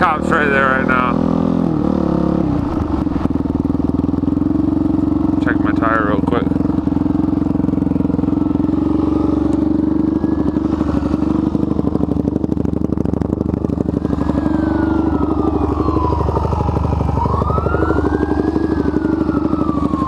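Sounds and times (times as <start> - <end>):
motorcycle engine running: 0.0 - 20.0
siren wailing: 2.1 - 20.0.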